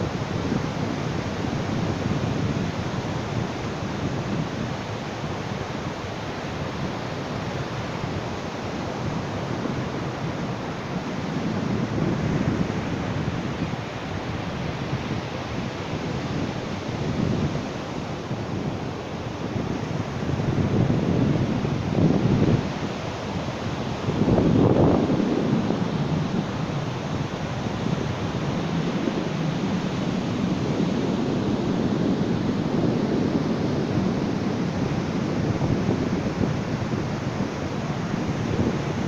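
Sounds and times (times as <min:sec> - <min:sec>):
ocean waves breaking on beach: 0:00.0 - 0:39.0.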